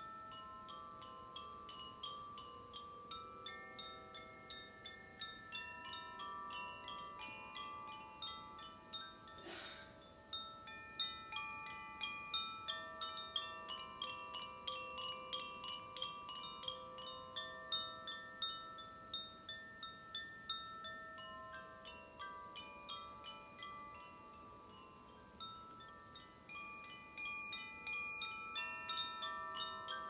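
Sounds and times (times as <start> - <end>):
chimes ringing: 0.0 - 30.0.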